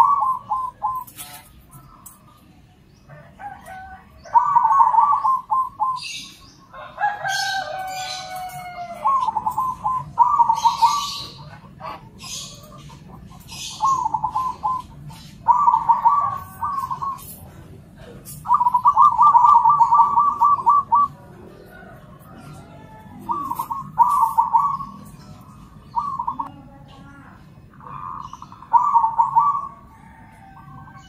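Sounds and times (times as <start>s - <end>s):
doves cooing: 0.0s - 31.0s.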